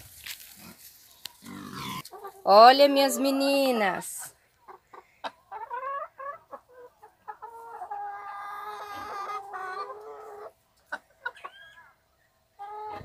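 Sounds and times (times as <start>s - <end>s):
chickens clucking: 0.6s - 13.0s.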